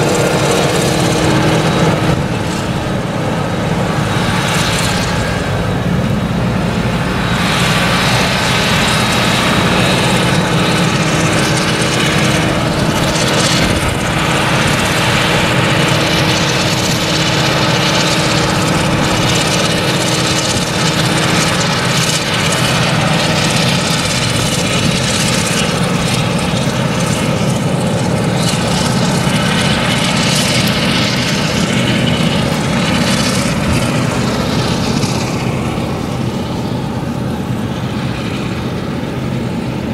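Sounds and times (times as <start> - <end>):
forage harvester engine droning: 0.0 - 39.9.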